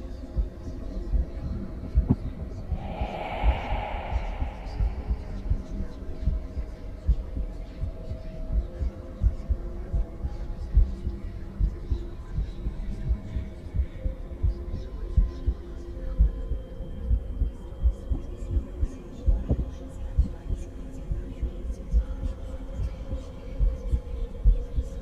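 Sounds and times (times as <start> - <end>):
faint whispering voices: 0.0 - 25.0.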